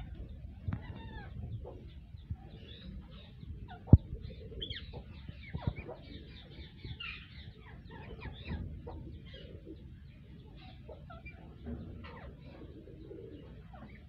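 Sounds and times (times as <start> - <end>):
parakeets chattering: 0.0 - 14.0.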